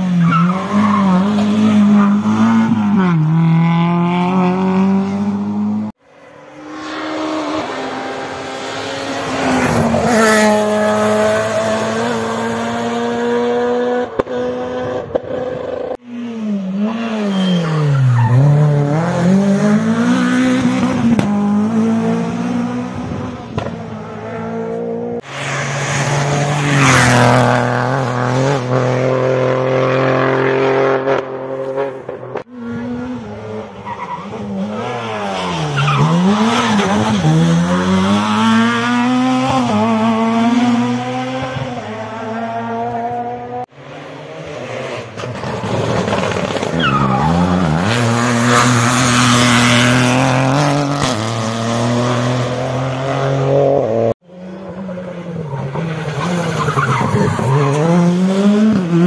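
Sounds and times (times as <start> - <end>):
rally cars revving past: 0.0 - 59.0.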